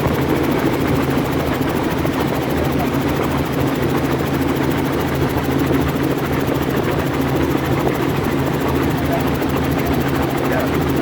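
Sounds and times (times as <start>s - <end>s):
helicopter engine and rotors: 0.0s - 11.0s.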